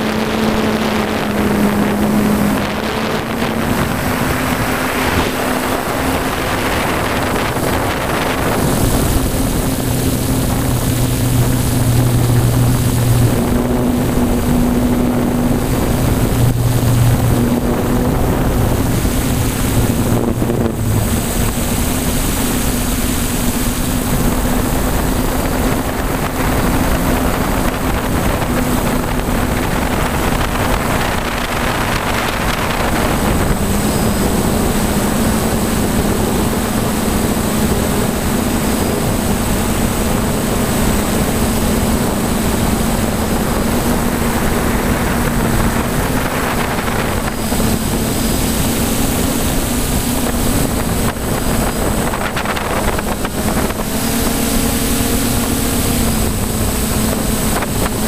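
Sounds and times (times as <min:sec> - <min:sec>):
air rushing: 0:00.0 - 0:58.0
drone motors humming: 0:00.0 - 0:58.0.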